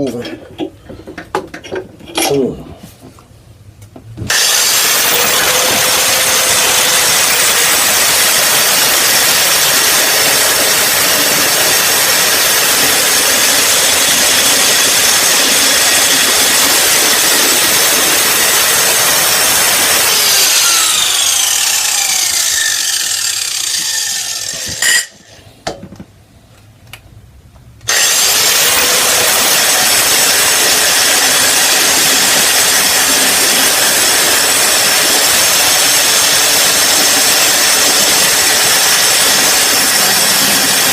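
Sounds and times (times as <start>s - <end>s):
grinder disc spinning down: 4.3s - 25.3s, 27.9s - 40.9s
angle grinder cutting steel: 4.3s - 25.4s, 27.9s - 40.9s.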